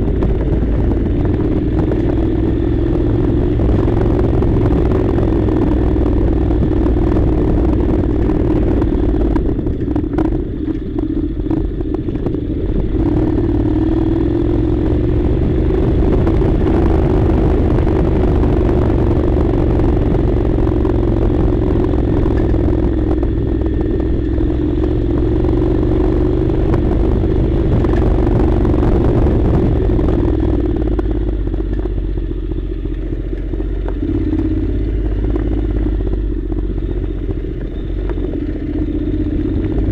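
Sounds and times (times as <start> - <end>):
motorcycle engine running: 0.0 - 39.9
rattling and clatter: 0.0 - 39.9.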